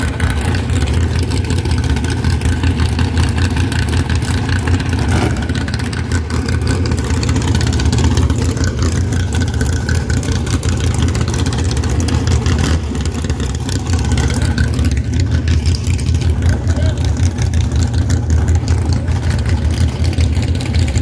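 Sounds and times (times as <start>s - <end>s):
race engine idling: 0.0s - 21.0s.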